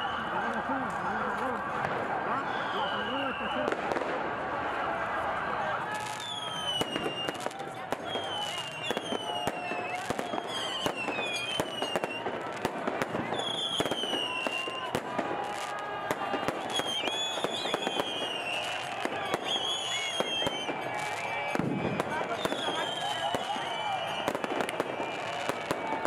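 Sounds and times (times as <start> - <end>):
fireworks bangs and crackles: 0.0 - 26.0
large crowd voices: 0.0 - 26.0
shrill firework whistles: 2.4 - 4.0, 5.9 - 12.5, 13.1 - 26.0.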